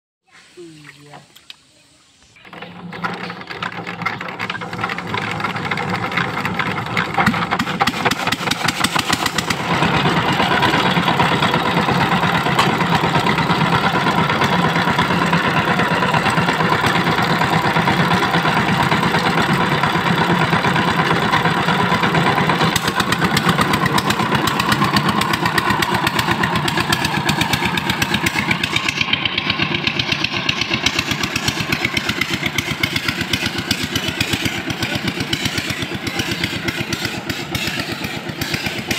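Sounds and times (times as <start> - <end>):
diesel tiller engine knocking: 2.4 - 38.9.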